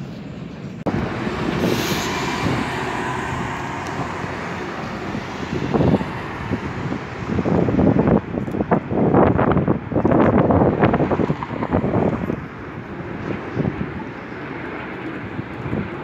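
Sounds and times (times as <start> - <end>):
jet engines roaring: 0.0 - 16.0
wind buffeting microphone: 0.5 - 16.0.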